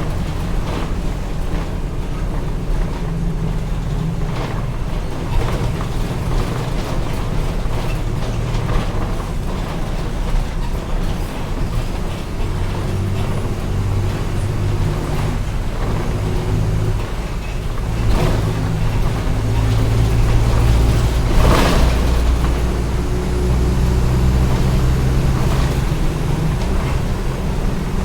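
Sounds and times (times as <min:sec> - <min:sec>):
bus engine droning: 0:00.0 - 0:28.0
knocks and rattles: 0:00.0 - 0:28.0
road noise: 0:00.0 - 0:28.0.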